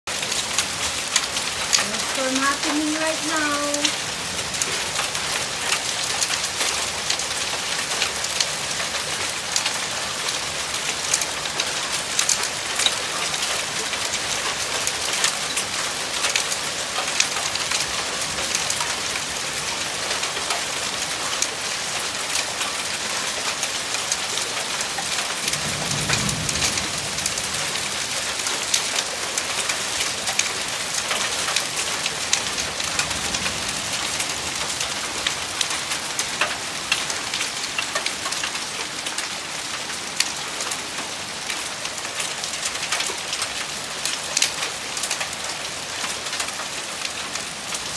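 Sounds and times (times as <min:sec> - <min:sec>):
hail and heavy rain pelting: 0:00.1 - 0:47.9.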